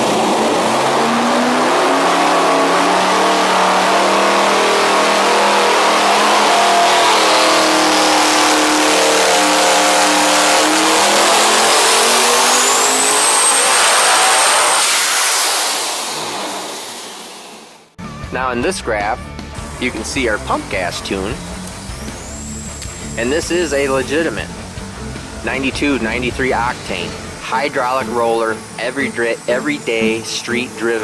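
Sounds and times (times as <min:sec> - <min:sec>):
engine revving at full throttle: 0:00.0 - 0:18.0, 0:18.9 - 0:31.0
high turbo whine: 0:00.0 - 0:31.0.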